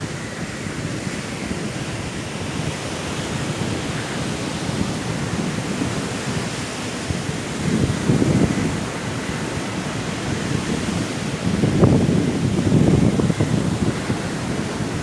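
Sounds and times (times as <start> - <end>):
sea waves: 0.0 - 15.0
strong wind: 0.0 - 15.0.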